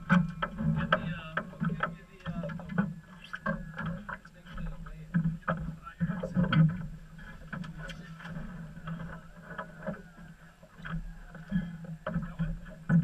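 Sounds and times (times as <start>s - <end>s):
boat engine low hum: 0.0s - 13.0s
knocks on hull: 0.0s - 13.0s.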